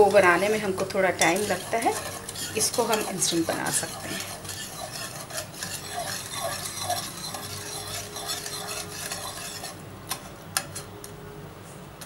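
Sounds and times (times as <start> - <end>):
whisk clicking against pan: 0.0 - 9.7
whisk swishing in saucepan: 0.0 - 9.8.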